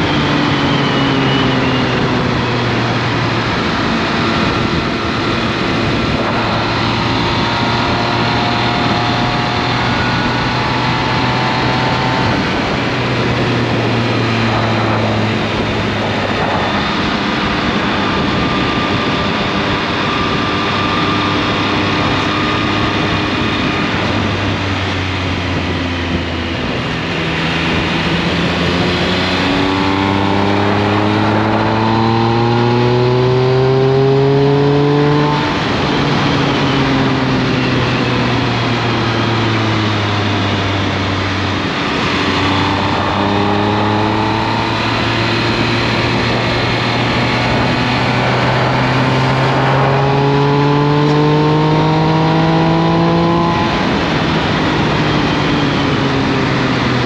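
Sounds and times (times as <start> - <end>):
motorcycle engine accelerating: 0.0 - 57.0
wind rush: 0.0 - 57.0.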